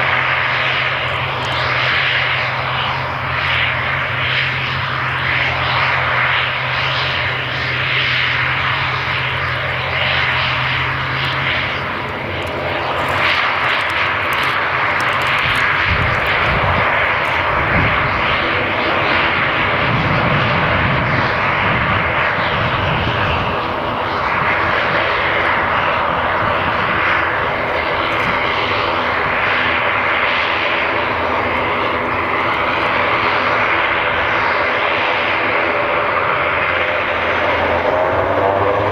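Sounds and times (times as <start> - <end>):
turboprop engines running: 0.0 - 38.9.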